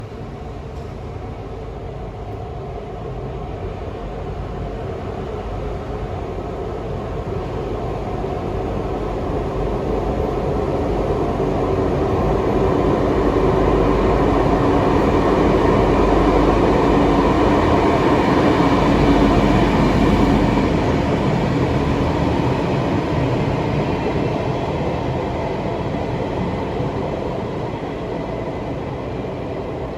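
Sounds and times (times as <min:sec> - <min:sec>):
freight train passing: 0:00.0 - 0:29.9.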